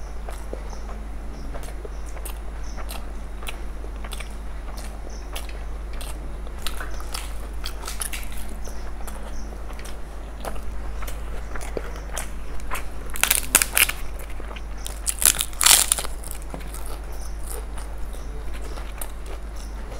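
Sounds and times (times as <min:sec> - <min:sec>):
low hum: 0:00.0 - 0:19.9
people chewing food: 0:00.0 - 0:19.9.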